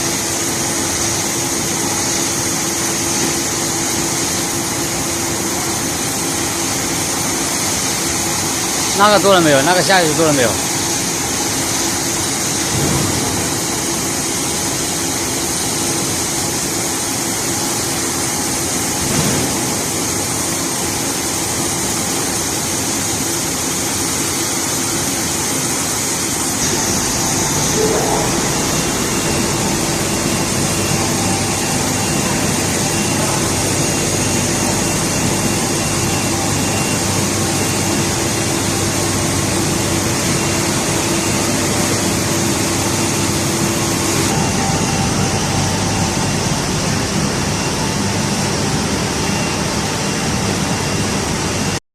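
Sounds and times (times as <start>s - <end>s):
hum of motors and pumps: 0.0s - 51.8s.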